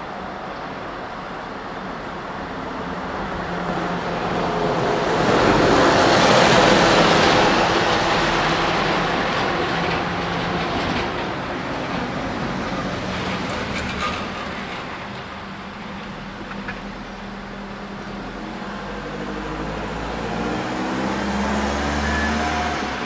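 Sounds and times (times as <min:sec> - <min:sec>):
steady road traffic: 0:00.0 - 0:23.0
heavy lorry driving past: 0:02.5 - 0:23.0.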